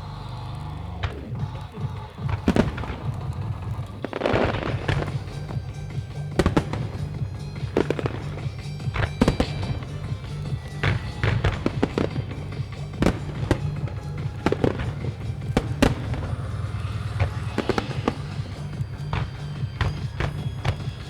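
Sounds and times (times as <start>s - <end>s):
firework shells bursting: 0.0s - 21.0s
music over loudspeakers: 0.0s - 21.0s.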